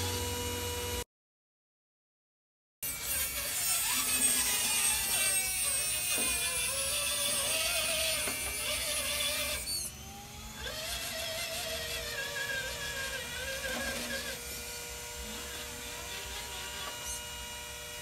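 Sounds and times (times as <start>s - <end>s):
power tool winding down whine: 0.0s - 1.0s, 2.9s - 18.0s
power tool running with hiss: 3.3s - 18.0s.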